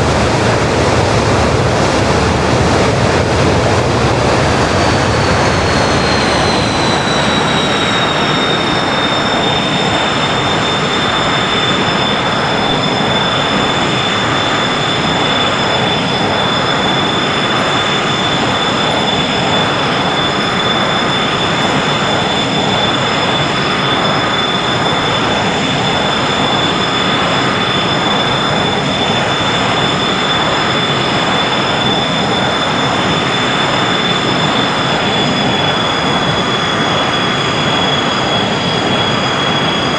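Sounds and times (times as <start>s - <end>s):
high turbine whine: 0.0s - 33.8s
jet engines roaring: 0.0s - 34.0s.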